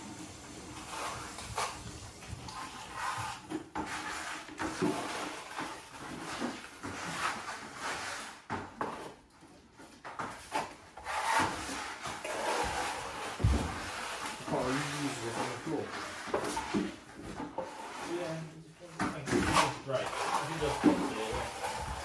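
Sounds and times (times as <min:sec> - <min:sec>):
tool scraping hard surface: 0:00.0 - 0:09.2, 0:09.9 - 0:22.0.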